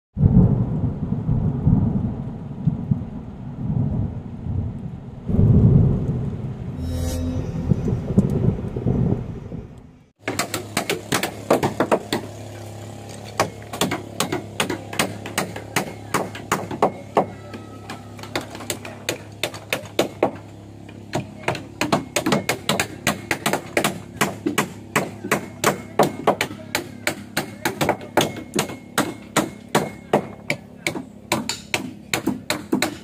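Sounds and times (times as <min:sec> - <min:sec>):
steady low hum: 0:00.2 - 0:33.0.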